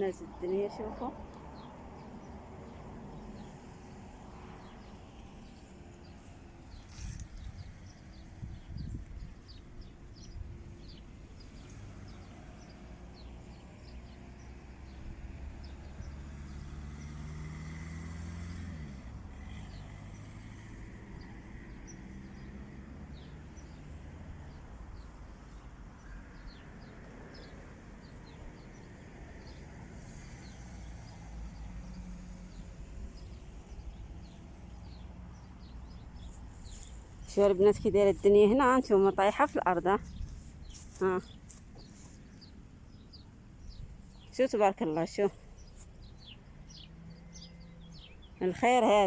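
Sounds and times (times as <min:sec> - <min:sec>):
passing vehicle engine hum: 0:00.0 - 0:49.0
small birds chirping: 0:00.0 - 0:49.0.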